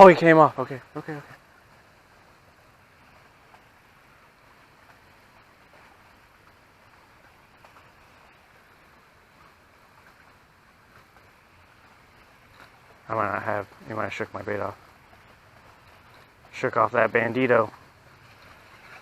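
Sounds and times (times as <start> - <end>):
low outdoor hiss: 0.0 - 19.0.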